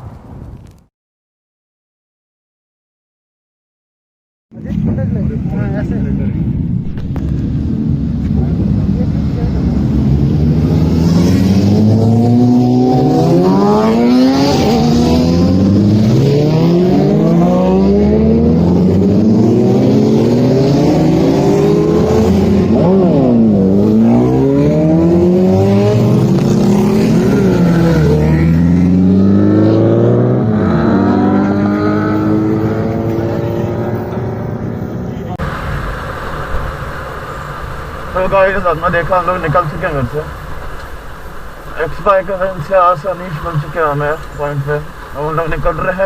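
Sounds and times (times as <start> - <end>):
motorcycle engine accelerating: 6.6 - 45.8.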